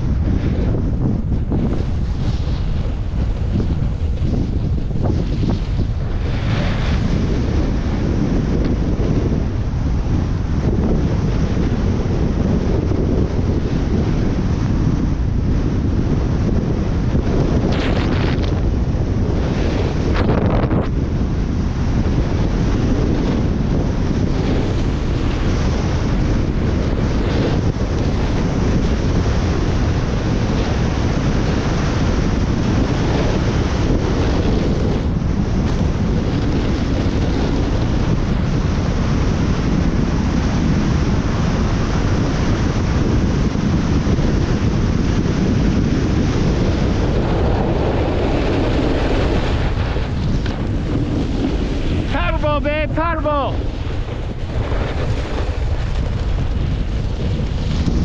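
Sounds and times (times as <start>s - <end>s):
wind on microphone: 0.0s - 58.0s.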